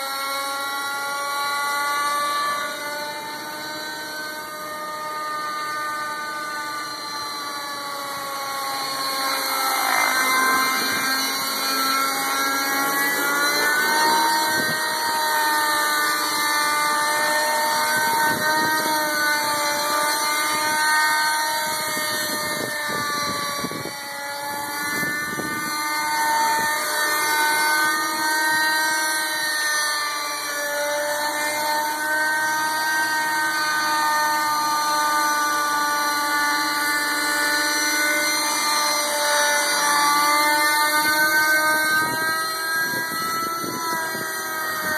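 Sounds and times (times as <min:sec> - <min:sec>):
model helicopter engine whine: 0:00.0 - 0:44.9.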